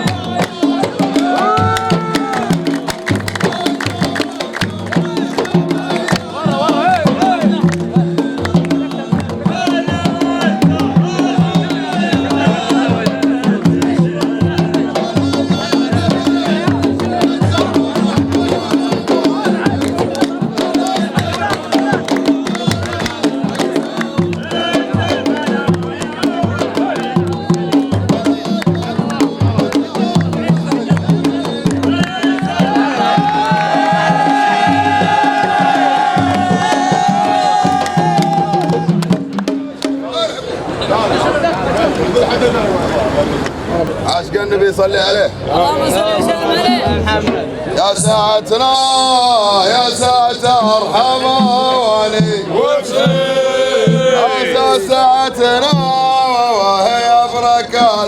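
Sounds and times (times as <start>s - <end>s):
drum-led festive music: 0.0s - 58.0s.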